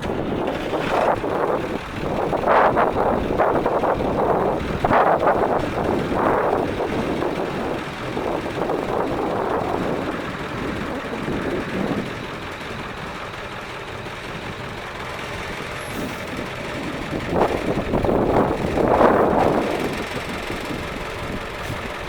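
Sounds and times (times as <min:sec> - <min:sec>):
bus diesel engine running: 0:00.0 - 0:22.0
wind buffeting microphone: 0:00.0 - 0:22.0.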